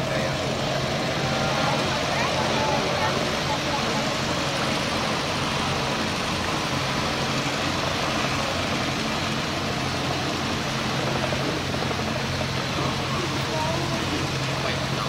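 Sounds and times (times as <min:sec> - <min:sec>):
boat motor humming: 0:00.0 - 0:15.0
steady rush of noise: 0:00.0 - 0:15.0.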